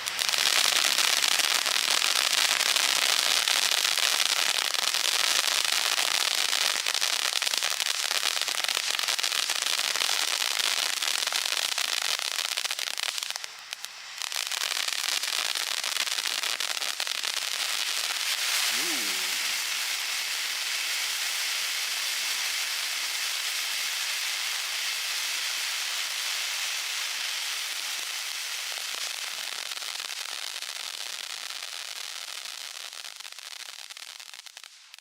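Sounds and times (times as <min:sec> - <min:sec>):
firework cake crackling: 0:00.0 - 0:35.0.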